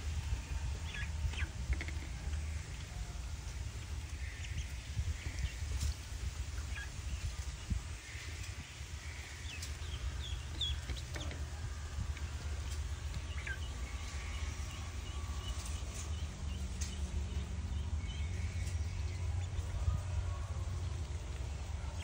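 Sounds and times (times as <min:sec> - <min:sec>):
steady low rumble: 0:00.0 - 0:22.0
chicks peeping: 0:00.1 - 0:22.0.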